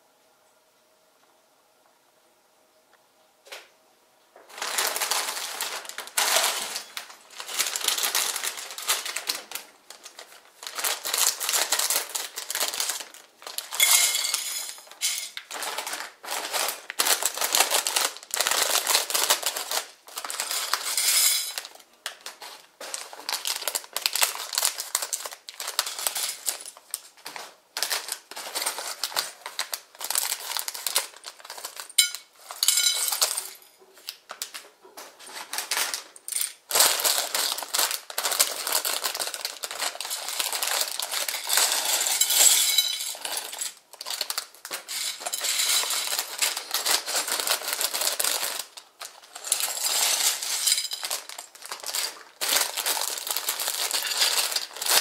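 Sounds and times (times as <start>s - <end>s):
plastic bags crinkling: 4.4s - 55.0s
plastic bricks clattering on plate: 4.5s - 34.6s, 35.2s - 55.0s.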